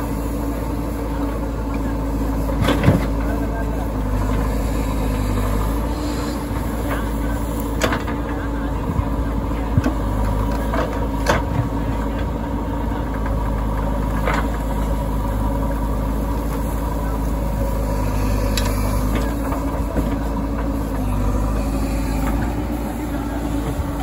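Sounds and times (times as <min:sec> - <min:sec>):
diesel engine under hydraulic load: 0:00.0 - 0:24.0.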